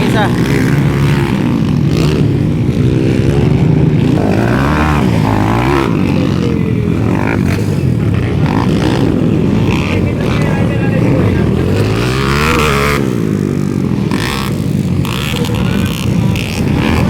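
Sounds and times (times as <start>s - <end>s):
motorcycles racing: 0.0s - 17.0s.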